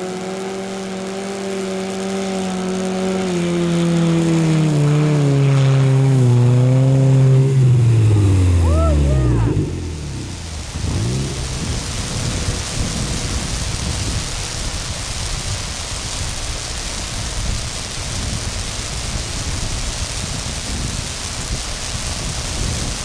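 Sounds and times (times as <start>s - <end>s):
faint engine revving: 0.0s - 23.0s
wind buffeting microphone: 3.0s - 23.0s.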